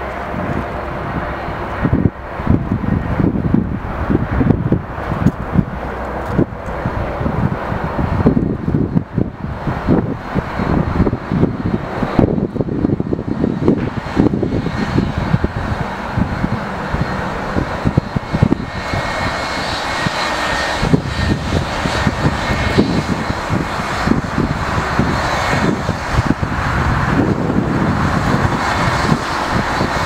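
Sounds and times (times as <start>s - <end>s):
jet engine roar with whine: 0.0s - 30.0s.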